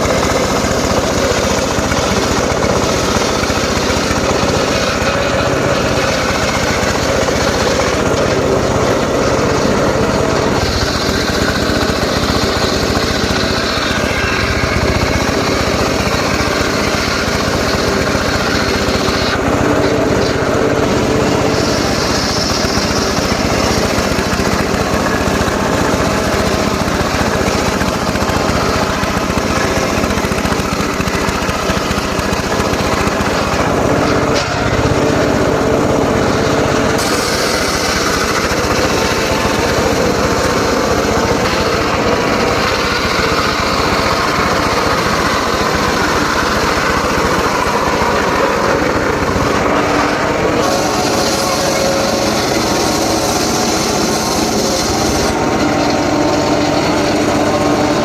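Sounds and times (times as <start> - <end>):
engine-driven saw cutting wood: 0.0 - 58.0.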